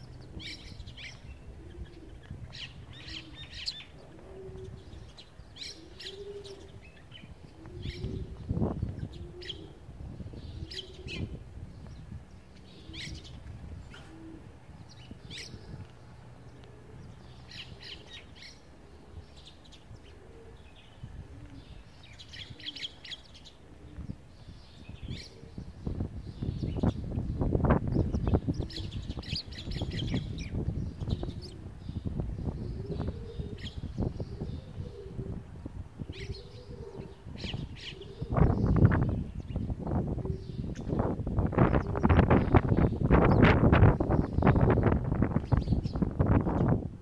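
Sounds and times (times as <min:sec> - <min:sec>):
sparrows chirping: 0:00.0 - 0:35.2, 0:36.0 - 0:46.8.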